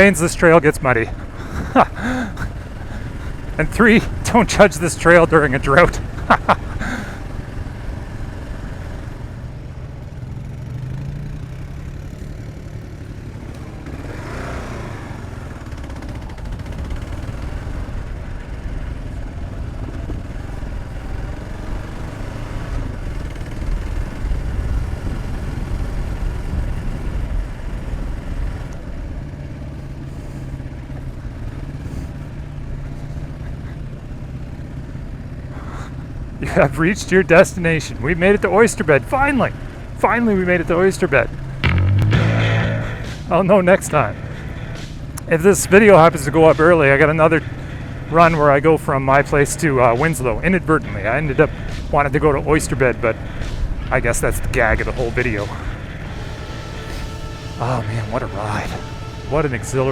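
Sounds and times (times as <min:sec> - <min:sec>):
motorcycle engine running: 0:01.1 - 0:36.7, 0:39.1 - 0:59.9.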